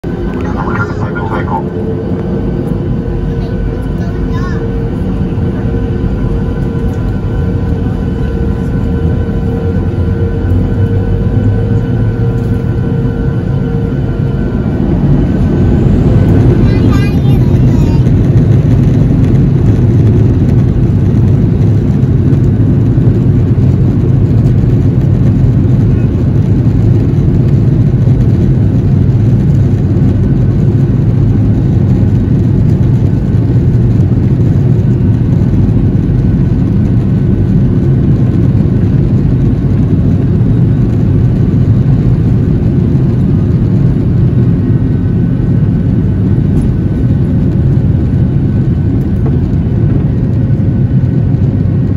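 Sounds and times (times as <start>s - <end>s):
jet engines at high thrust: 0.0s - 51.9s
wheels rumbling on runway: 0.0s - 51.9s.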